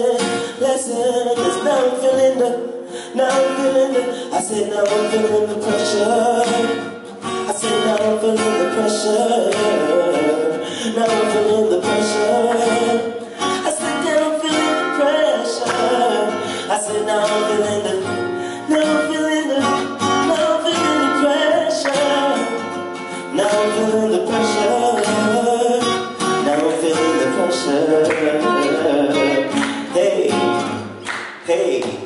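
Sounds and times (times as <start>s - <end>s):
acoustic guitar: 0.0s - 32.0s
man singing into a microphone: 0.0s - 32.0s.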